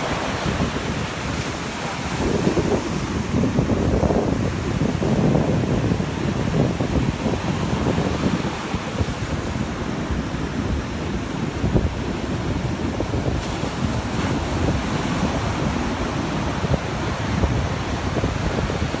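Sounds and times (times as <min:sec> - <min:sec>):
ocean surf breaking on beach: 0:00.0 - 0:19.0
wind buffeting microphone: 0:00.0 - 0:19.0.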